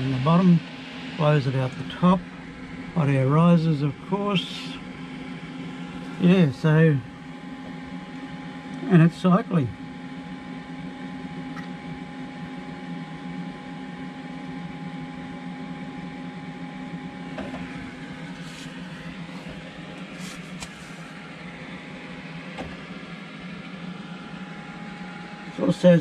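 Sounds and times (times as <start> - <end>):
cooling fan humming: 0.0 - 26.0.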